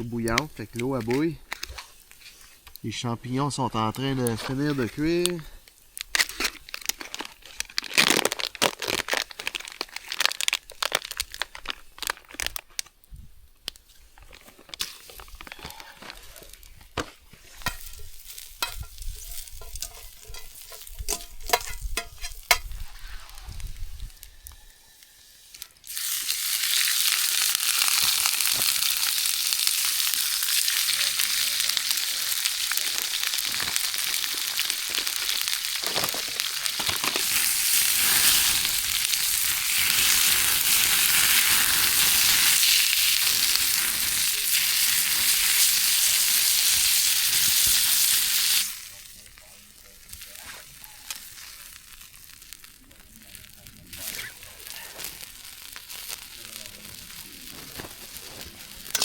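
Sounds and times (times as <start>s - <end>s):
food sizzling in hot pan: 0.0s - 12.6s, 13.8s - 59.0s.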